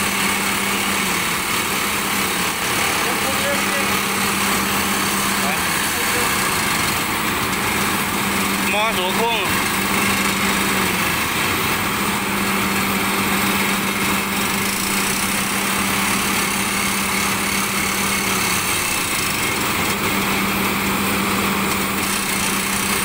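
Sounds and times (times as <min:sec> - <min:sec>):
drill rig engine drone: 0:00.0 - 0:23.0
rock drill hissing and clattering: 0:00.0 - 0:23.0.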